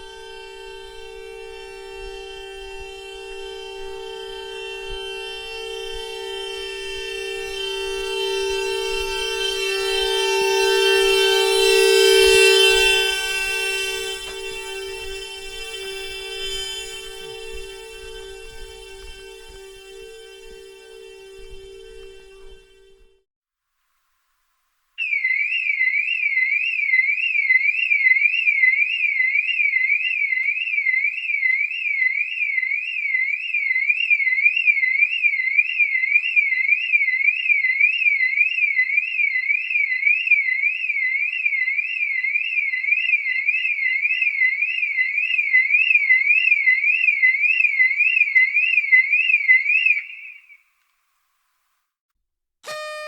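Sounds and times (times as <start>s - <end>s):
car alarm siren sweeping: 0.0s - 23.2s, 25.0s - 50.7s, 52.6s - 53.0s.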